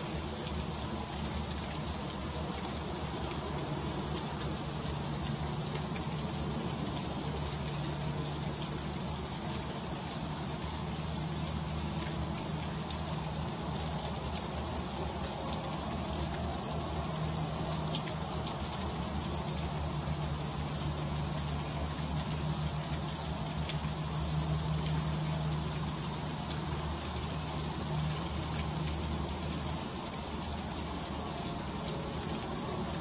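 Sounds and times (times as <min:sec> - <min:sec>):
freezing rain hissing: 0:00.0 - 0:33.0.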